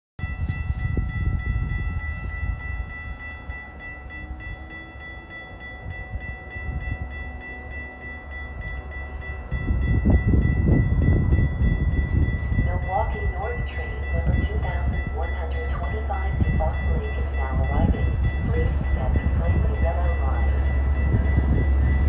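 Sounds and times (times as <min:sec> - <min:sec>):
distant train rumble: 0:00.2 - 0:22.0.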